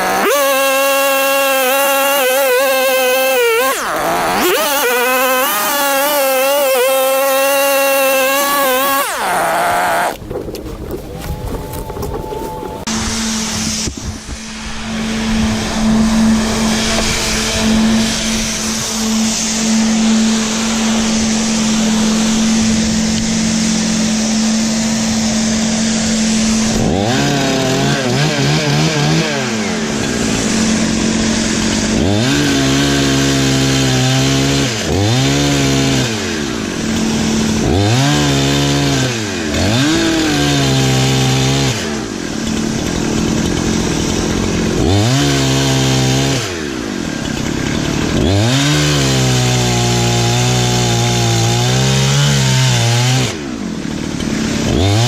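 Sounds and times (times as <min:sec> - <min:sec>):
chainsaw cutting firewood: 0:00.0 - 0:55.0.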